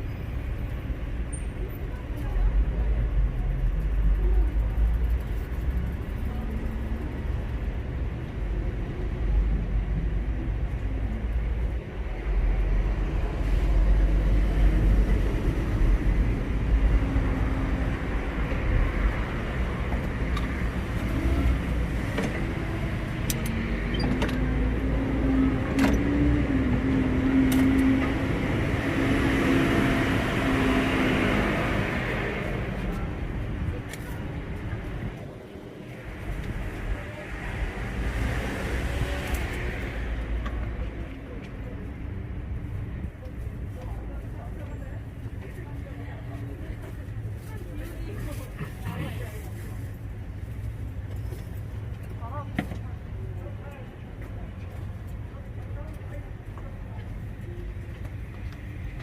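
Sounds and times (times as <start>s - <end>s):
rumble of passing vehicles: 0.0s - 59.0s.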